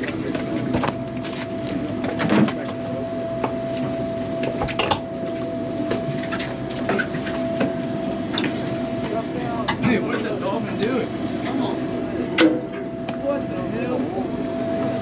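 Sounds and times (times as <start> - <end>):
boat machinery droning: 0.0 - 15.0.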